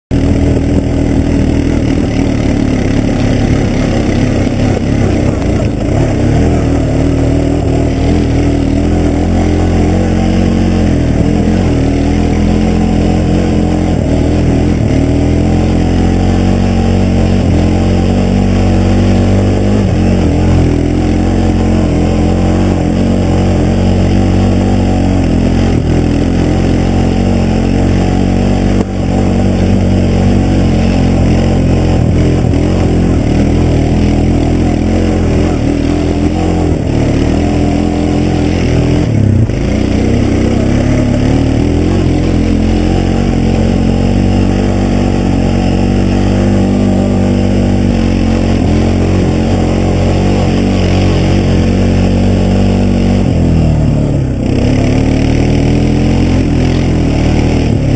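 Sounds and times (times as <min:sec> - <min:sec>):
atv engine running: 0:00.0 - 0:57.9.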